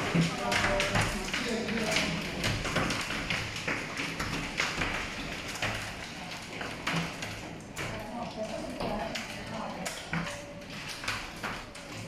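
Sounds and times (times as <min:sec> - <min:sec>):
hailstones striking hard surfaces: 0:00.0 - 0:12.0.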